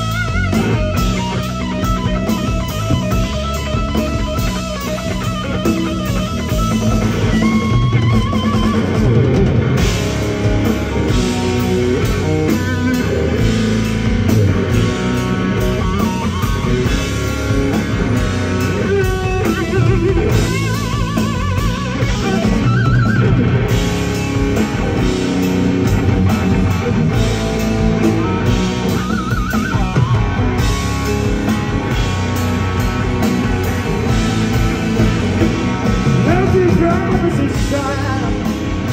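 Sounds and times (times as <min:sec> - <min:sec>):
drum kit: 0:00.0 - 0:38.9
lead electric guitar with vibrato: 0:00.0 - 0:38.9.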